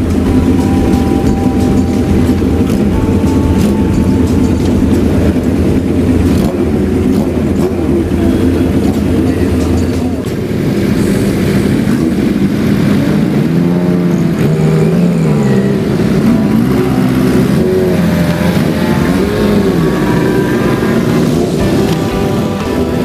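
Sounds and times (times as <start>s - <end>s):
engines revving as vehicles pass: 0.0s - 23.0s.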